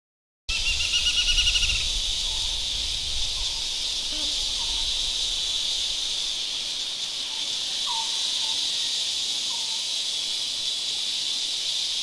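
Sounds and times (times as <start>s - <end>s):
insects droning: 0.5s - 12.0s.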